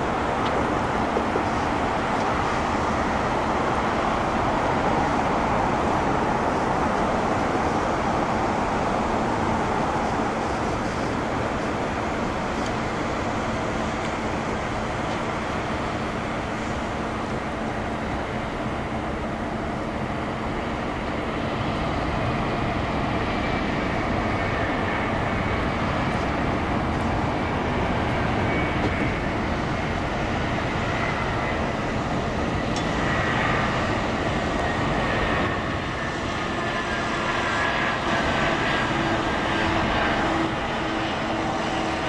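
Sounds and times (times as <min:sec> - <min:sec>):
jet engine high whine: 0:00.0 - 0:42.0
jet engine low rumble: 0:00.0 - 0:42.0.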